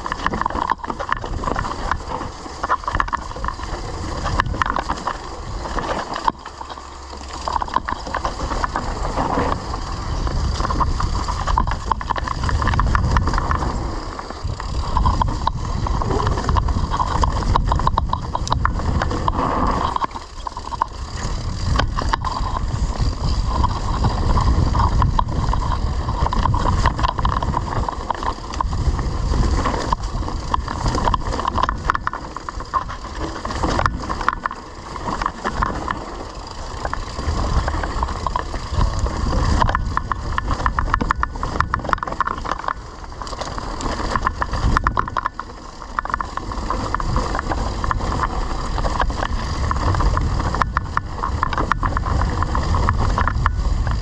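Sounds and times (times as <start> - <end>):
bike rattling over rough ground: 0.0 - 54.0
wind buffeting microphone: 0.0 - 54.0.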